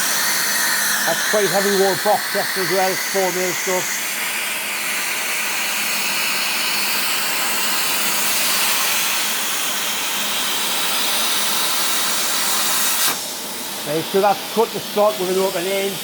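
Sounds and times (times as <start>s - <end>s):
plasma cutter hissing: 0.0s - 16.0s.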